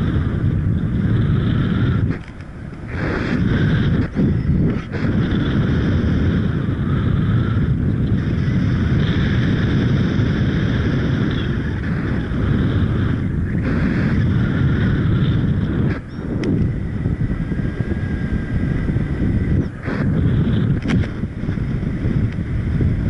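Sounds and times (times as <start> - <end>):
wind buffeting the microphone: 0.0 - 23.0.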